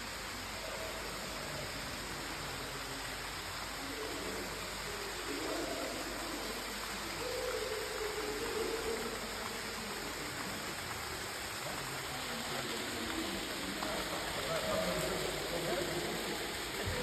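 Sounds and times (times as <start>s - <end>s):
steady rushing hiss: 0.0s - 17.0s.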